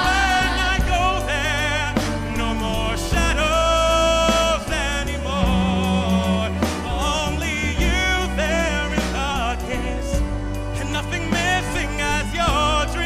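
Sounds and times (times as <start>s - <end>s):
band accompaniment: 0.0s - 13.0s
person singing with vibrato: 0.0s - 13.0s.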